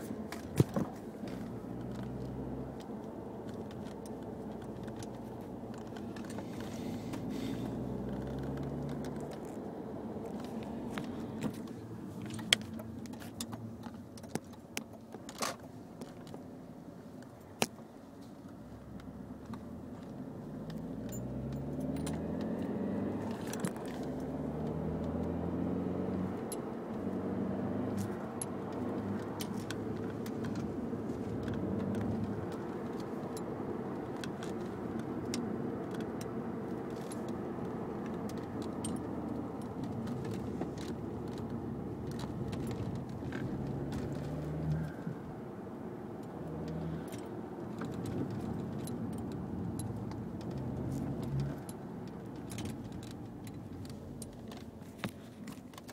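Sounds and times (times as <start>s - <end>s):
car engine revving: 0.0s - 13.8s, 19.0s - 45.4s, 46.1s - 54.5s.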